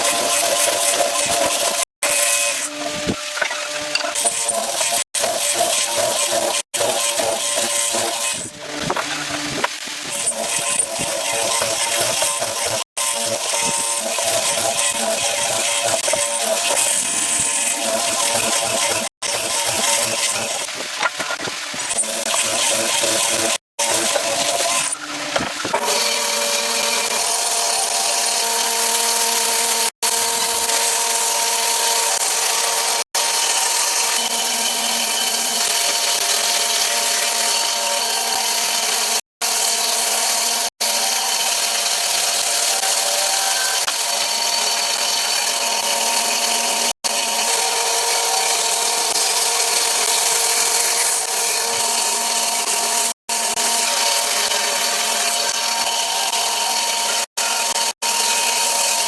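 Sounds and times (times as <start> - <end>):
power tool working wood: 0.0 - 59.0.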